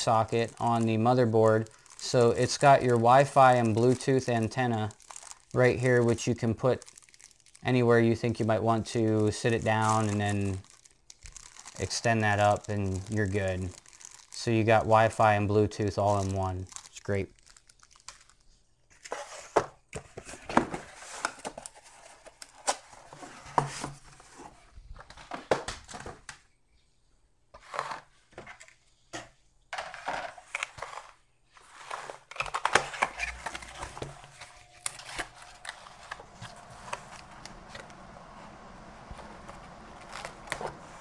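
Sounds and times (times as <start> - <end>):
cardboard packaging rustling: 0.0 - 26.3, 29.8 - 41.0.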